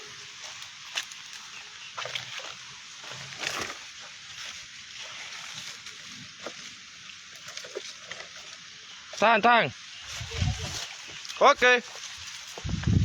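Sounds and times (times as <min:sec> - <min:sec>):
wind rushing through palm leaves: 0:00.0 - 0:13.0.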